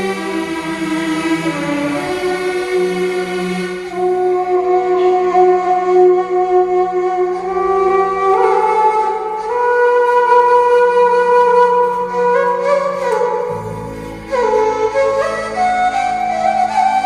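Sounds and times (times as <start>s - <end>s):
harmonium playing slow melody: 0.0s - 17.0s.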